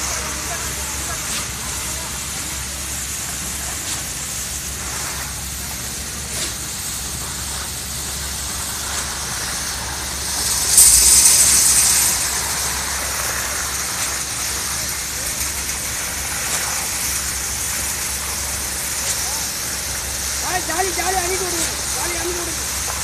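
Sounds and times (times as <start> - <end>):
concrete pump hissing and humming: 0.0 - 23.0.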